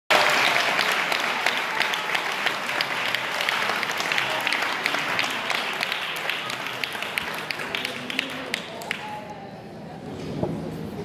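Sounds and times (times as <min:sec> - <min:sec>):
audience applauding: 0:00.1 - 0:09.2.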